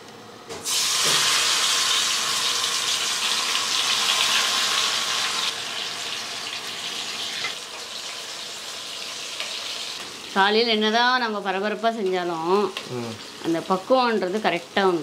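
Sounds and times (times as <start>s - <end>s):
florets deep-frying in hot oil: 0.6s - 15.0s.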